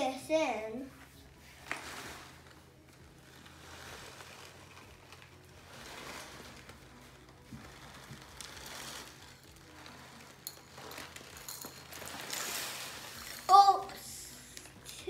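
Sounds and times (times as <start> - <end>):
cereal pouring into bowl: 1.6 - 15.0.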